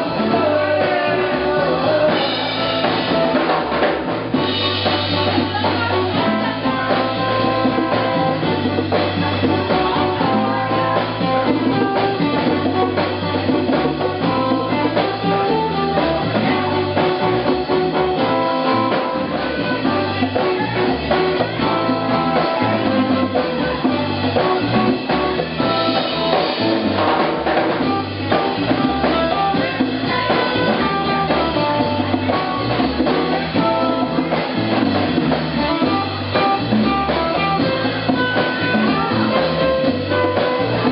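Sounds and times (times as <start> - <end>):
bass guitar: 0.0 - 40.9
drum kit: 0.0 - 40.9
live band music: 0.0 - 40.9.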